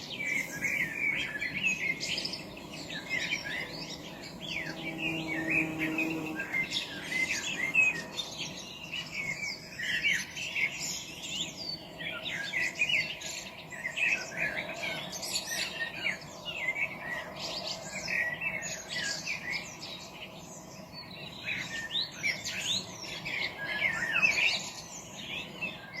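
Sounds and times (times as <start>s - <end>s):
songbirds chorus: 0.0s - 26.0s.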